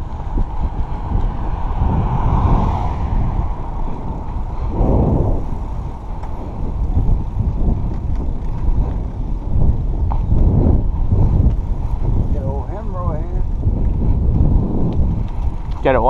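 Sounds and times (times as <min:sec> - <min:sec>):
bicycle road rumble: 0:00.0 - 0:16.0
wind buffeting microphone: 0:00.0 - 0:16.0.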